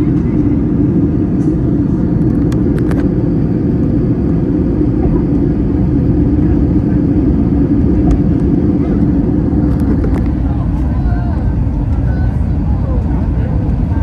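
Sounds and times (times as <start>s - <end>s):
jet engine drone and rushing air: 0.0s - 14.0s
low hum: 0.0s - 14.0s.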